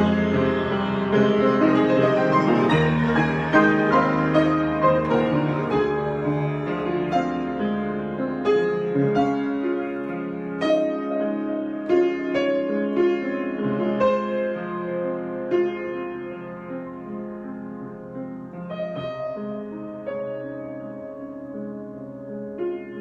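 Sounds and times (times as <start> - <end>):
piano notes and chords: 0.0 - 23.0.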